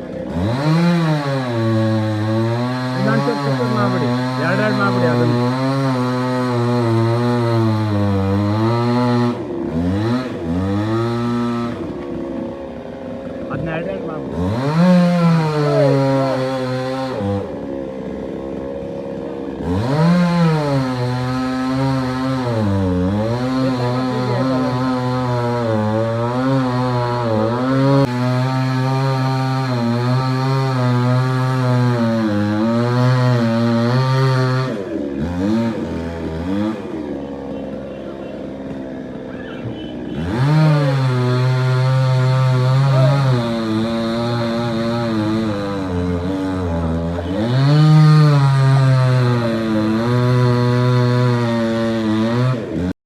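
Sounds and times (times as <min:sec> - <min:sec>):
chainsaw cutting wood: 0:00.0 - 0:39.3, 0:39.9 - 0:53.0.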